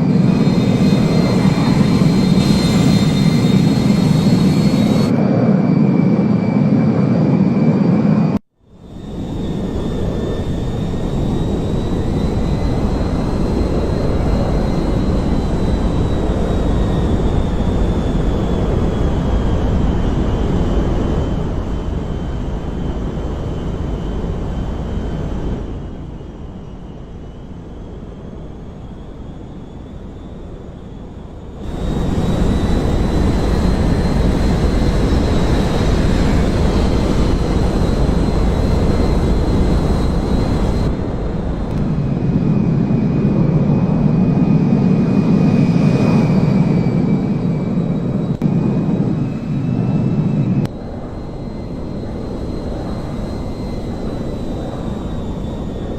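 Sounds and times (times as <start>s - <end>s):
jet engines rumbling and whining: 0.0s - 55.9s.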